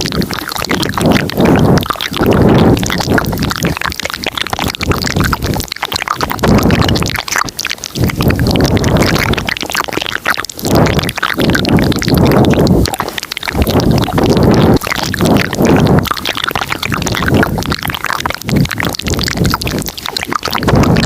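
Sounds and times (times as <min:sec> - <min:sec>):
wet mouth clicks and smacks: 0:00.0 - 0:21.0.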